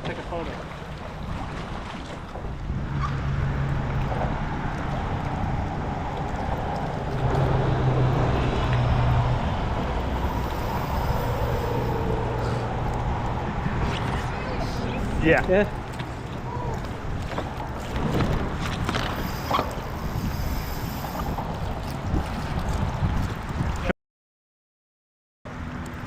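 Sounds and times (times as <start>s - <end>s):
water noise: 0.0s - 23.9s
wind: 0.0s - 23.9s, 25.5s - 26.0s
low engine drone: 0.5s - 21.8s.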